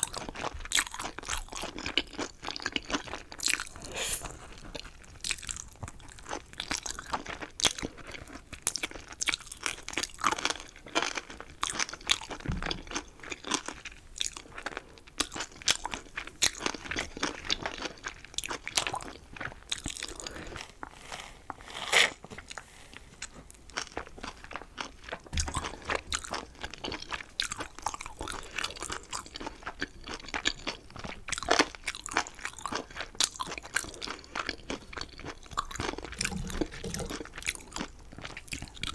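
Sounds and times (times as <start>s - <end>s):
crunchy chewing: 0.0s - 20.9s, 21.5s - 38.9s.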